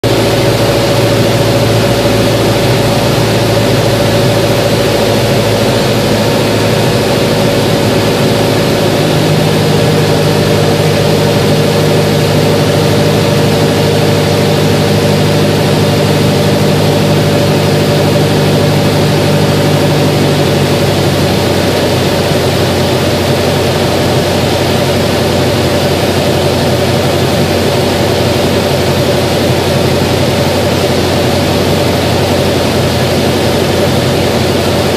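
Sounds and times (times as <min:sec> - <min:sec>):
aircraft engine and propeller: 0:00.0 - 0:34.9.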